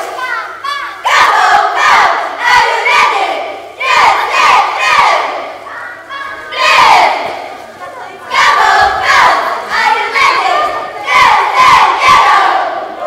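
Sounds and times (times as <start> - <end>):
cheerleaders shouting together: 0.0 - 7.5, 8.3 - 13.0.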